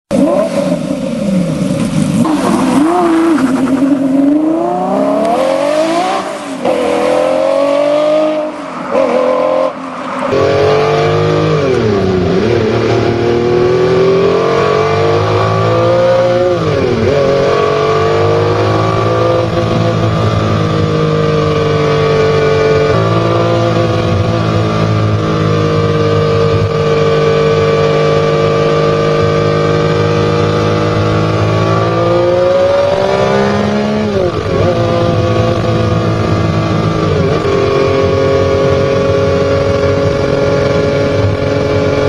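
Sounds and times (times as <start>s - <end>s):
car engine revving hard: 2.1s - 42.0s.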